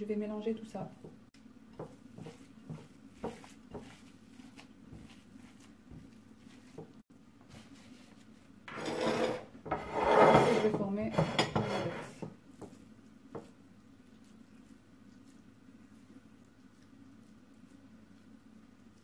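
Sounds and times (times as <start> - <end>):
meat mixture rubbing in bowl: 0.0 - 19.0.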